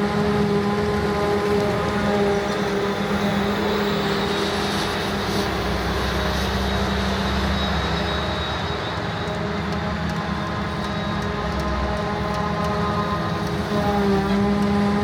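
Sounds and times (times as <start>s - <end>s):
forage harvester running: 0.0s - 15.0s.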